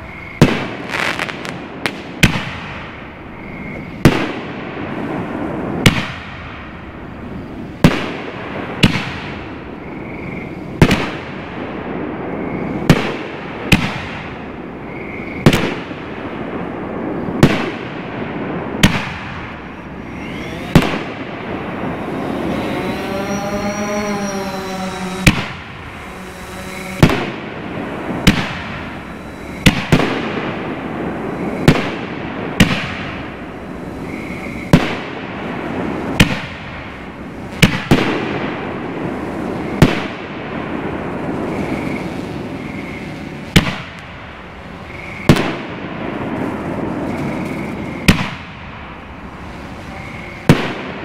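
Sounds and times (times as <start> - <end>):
continuous rumbling: 0.0 - 51.0
firework shells booming: 0.1 - 22.8, 25.2 - 51.0.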